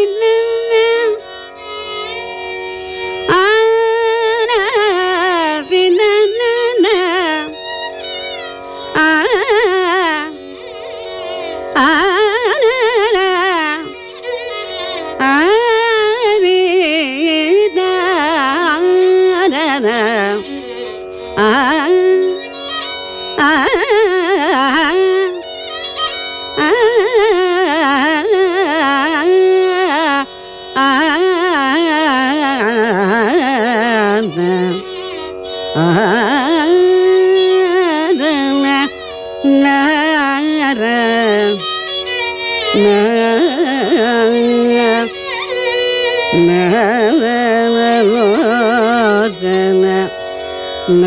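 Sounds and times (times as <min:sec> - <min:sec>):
steady drone: 0:00.0 - 0:51.0
violin: 0:00.0 - 0:51.0
woman singing classical melody: 0:00.0 - 0:51.0.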